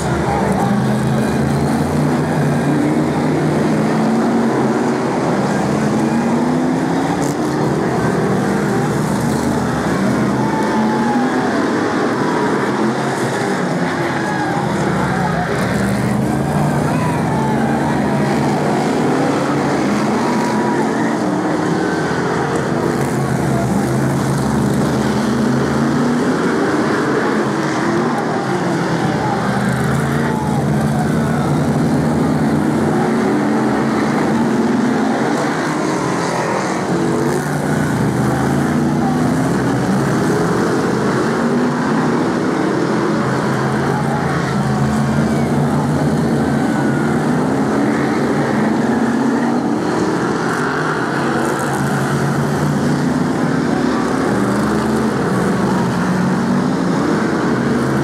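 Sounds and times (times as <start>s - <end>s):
race car engines roaring past: 0.0s - 58.0s.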